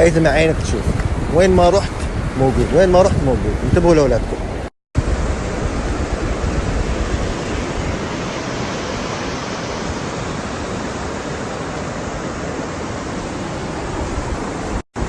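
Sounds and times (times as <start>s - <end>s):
waves breaking on a beach: 0.0s - 14.8s.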